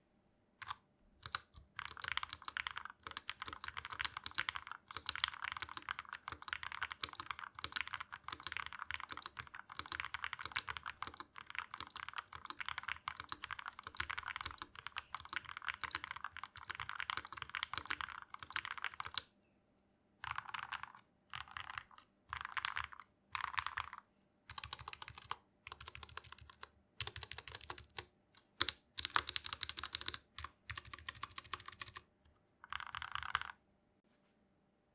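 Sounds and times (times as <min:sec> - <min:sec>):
mechanical keyboard typing: 0:00.6 - 0:19.3, 0:20.2 - 0:32.0, 0:32.6 - 0:33.6.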